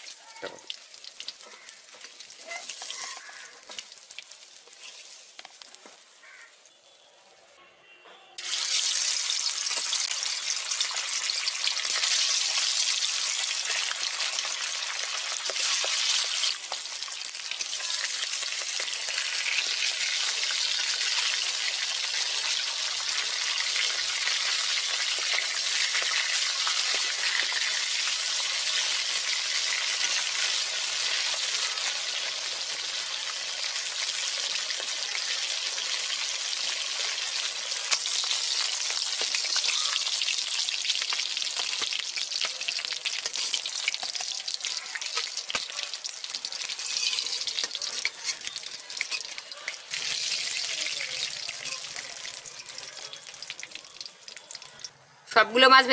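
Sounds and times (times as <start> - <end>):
fish sizzling in hot oil: 0.0 - 6.6, 8.4 - 55.0.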